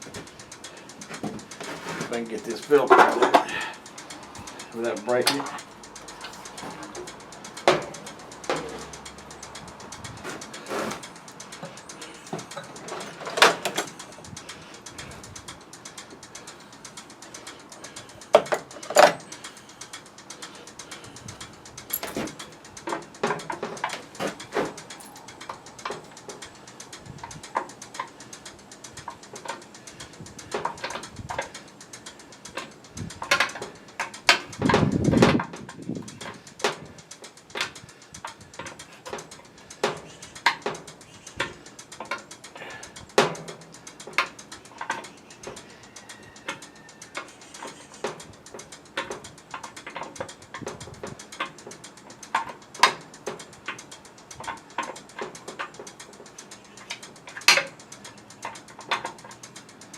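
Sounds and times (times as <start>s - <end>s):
dense rattle: 0.0s - 59.9s
tools and plastic parts clicking: 0.0s - 59.9s.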